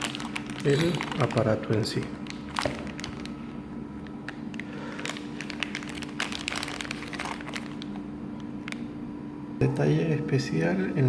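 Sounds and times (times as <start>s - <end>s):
packaging clicks and crinkles: 0.0s - 8.9s.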